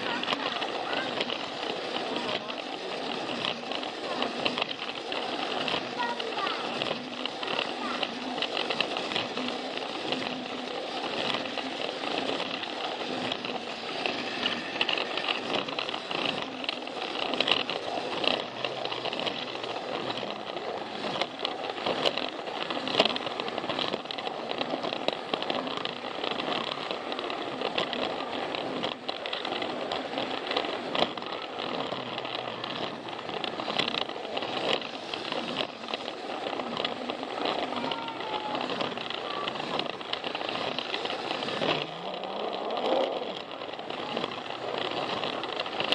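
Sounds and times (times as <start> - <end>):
toy train rattling on plastic track: 0.0 - 45.9.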